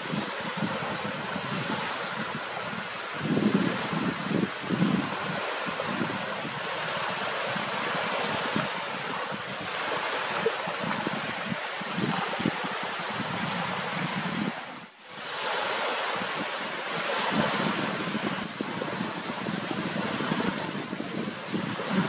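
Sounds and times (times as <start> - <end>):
water lapping shore: 0.0 - 22.0
wind: 0.0 - 22.0
wind buffeting microphone: 0.0 - 22.0.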